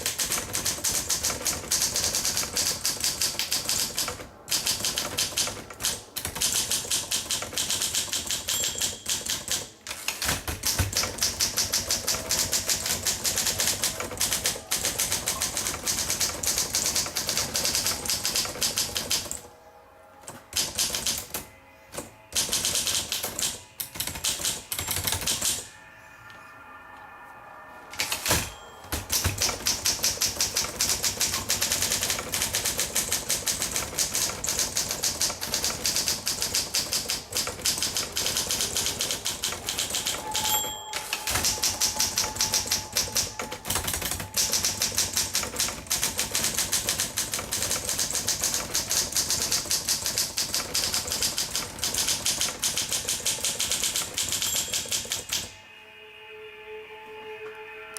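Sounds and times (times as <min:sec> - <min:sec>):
manual typewriter typing: 0:00.0 - 0:19.5, 0:20.2 - 0:25.7, 0:28.0 - 0:55.5
typewriter margin bell: 0:00.0 - 0:19.5, 0:20.3 - 0:21.4, 0:22.0 - 0:25.7, 0:27.9 - 0:55.5.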